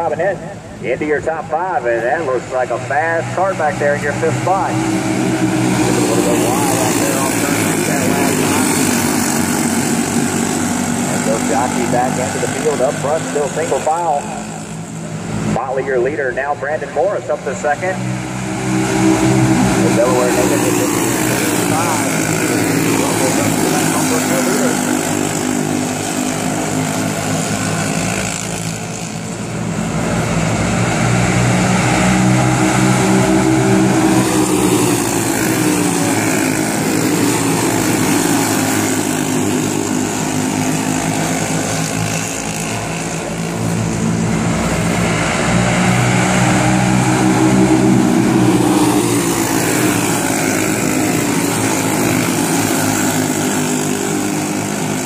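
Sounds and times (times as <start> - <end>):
racing kart engines passing: 0.0 - 55.0.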